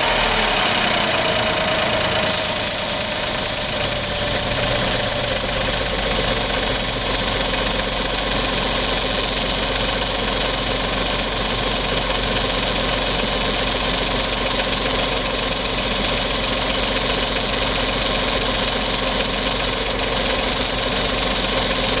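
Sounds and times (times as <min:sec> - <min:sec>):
engine idling: 0:00.0 - 0:22.0
squeaking valve noise: 0:00.0 - 0:22.0.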